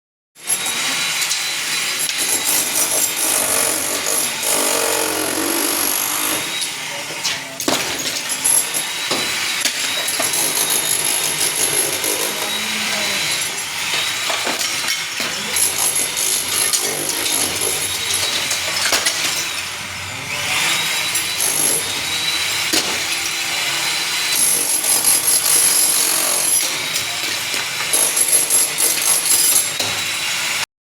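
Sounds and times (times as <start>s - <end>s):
electric drill grinding into tile: 0.4s - 30.7s.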